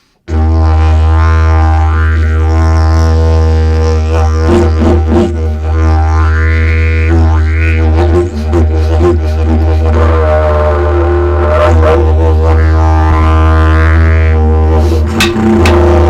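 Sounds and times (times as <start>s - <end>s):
didgeridoo drone: 0.3s - 16.0s.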